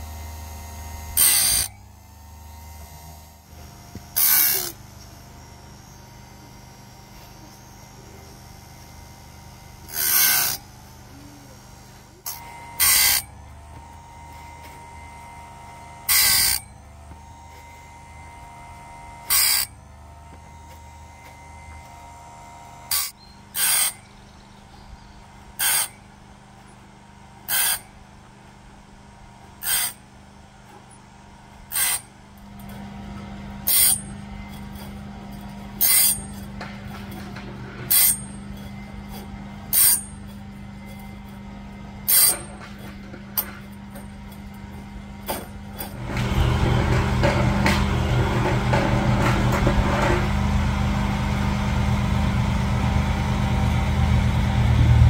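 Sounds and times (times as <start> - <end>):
grinding wheel on saw teeth: 0.0 - 55.0
loud mechanical running noise: 0.0 - 55.0
motor humming: 0.0 - 55.0.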